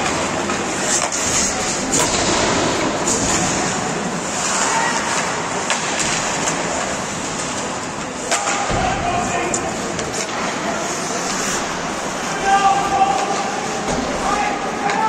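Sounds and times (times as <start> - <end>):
arena noise: 0.0 - 15.0
skates scraping ice: 0.0 - 15.0
sticks and puck clacking: 0.0 - 15.0.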